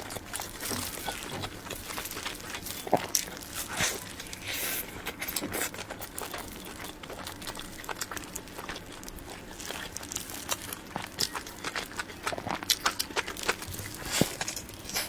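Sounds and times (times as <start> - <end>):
crinkling rustle: 0.0 - 15.0.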